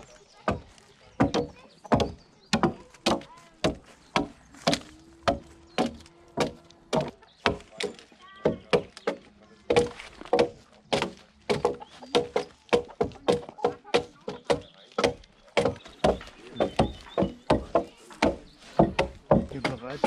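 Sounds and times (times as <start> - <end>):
axe chopping wood: 0.4 - 20.0.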